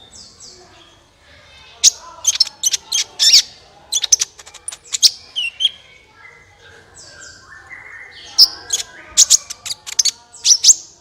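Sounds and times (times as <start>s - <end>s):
bird singing high chirps: 1.8s - 11.0s.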